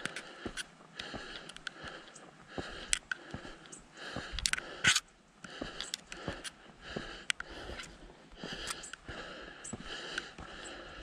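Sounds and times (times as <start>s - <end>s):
footsteps crunching on stony trail: 0.0s - 11.0s
person breathing: 0.0s - 11.0s.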